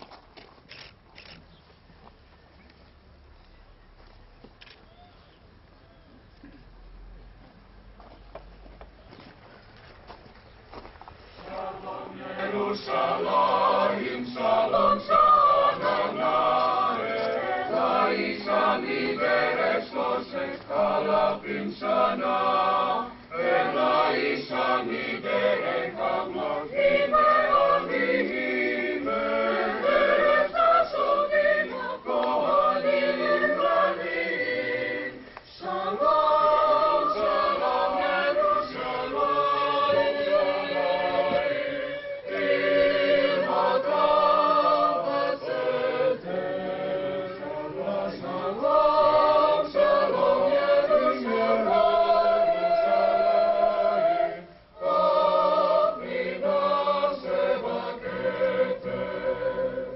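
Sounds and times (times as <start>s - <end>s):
choir singing slow song: 11.3s - 59.9s.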